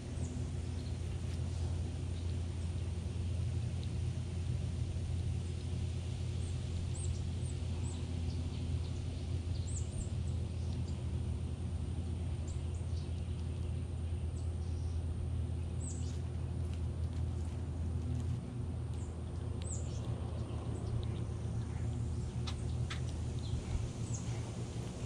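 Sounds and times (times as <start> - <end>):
low suburban rumble: 0.0 - 25.0.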